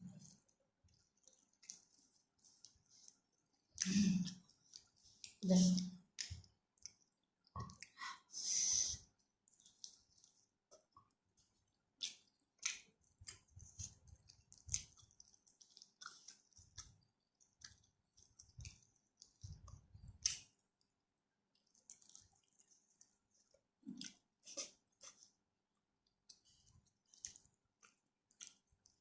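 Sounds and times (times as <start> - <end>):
person chewing wetly: 0.0 - 8.1, 8.9 - 29.0.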